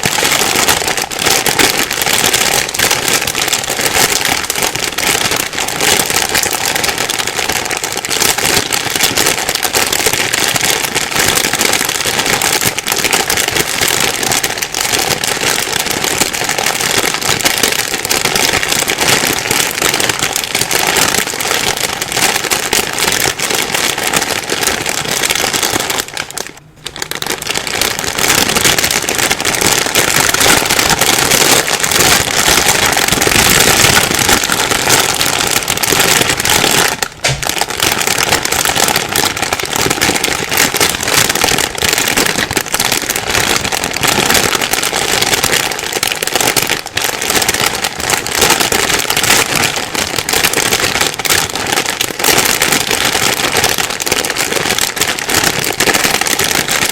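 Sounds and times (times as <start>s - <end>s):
plastic bag crinkling: 0.0s - 56.9s.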